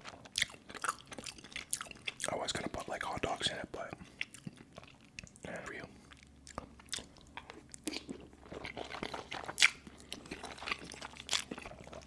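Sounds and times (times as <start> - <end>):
chewing macaroni: 0.0 - 12.0.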